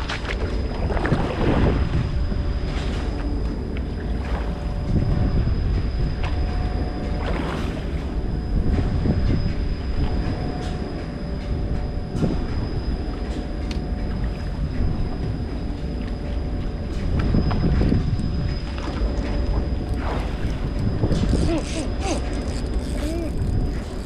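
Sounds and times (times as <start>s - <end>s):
faint constant whine: 0.0s - 24.0s
low mechanical rumble: 0.0s - 24.0s
water noise: 0.0s - 24.0s
wind: 0.0s - 24.0s.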